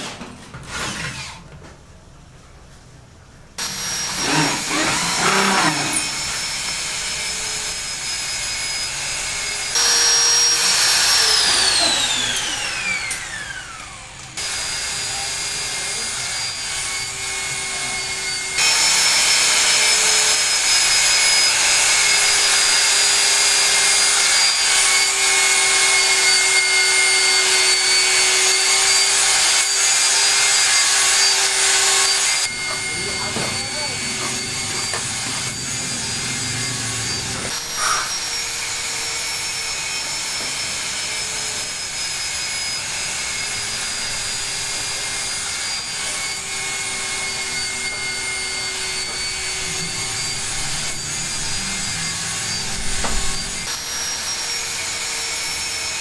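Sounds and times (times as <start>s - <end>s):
power tool motor whining: 3.6s - 56.0s.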